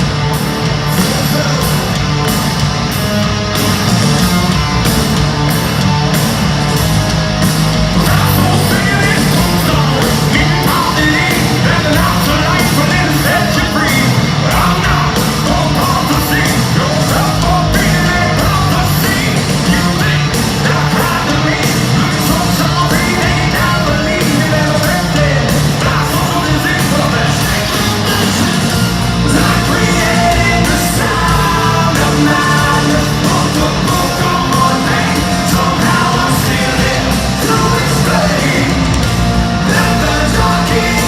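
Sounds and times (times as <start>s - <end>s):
distorted guitars: 0.0s - 41.0s
drums: 0.0s - 41.0s.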